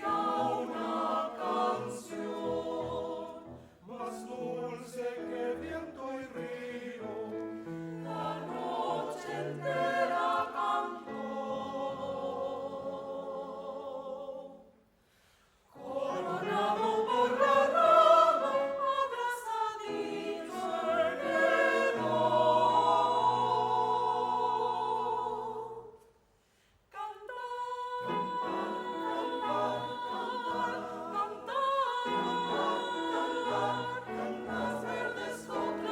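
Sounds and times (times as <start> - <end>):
choir singing: 0.0 - 14.8, 15.7 - 26.2, 26.9 - 35.9.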